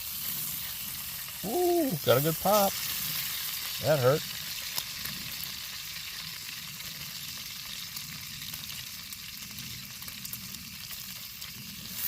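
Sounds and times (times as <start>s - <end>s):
bacon sizzling: 0.0s - 12.0s
grease popping: 0.0s - 12.0s.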